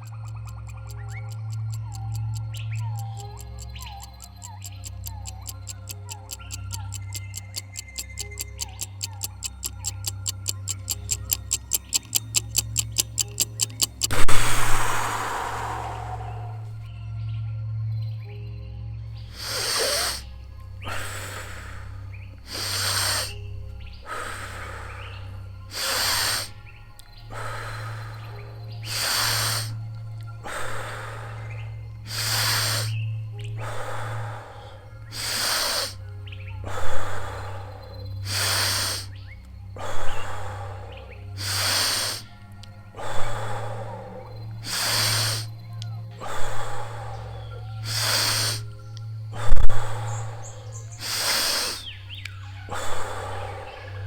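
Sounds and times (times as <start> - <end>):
person breathing deeply: 0.0 - 16.9, 19.3 - 26.6, 27.3 - 33.0, 33.6 - 36.0, 36.6 - 39.1, 39.8 - 45.6, 46.2 - 52.0, 52.6 - 54.0
low music drone: 0.0 - 54.0.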